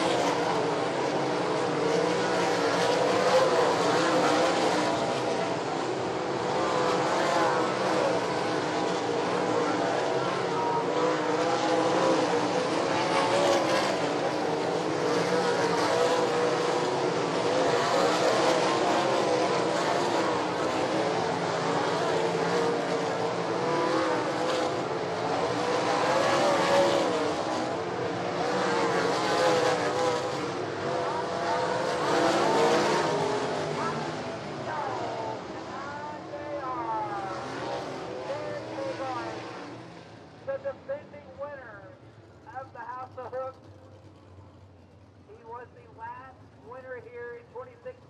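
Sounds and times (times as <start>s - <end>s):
race car engines passing: 0.0s - 48.0s.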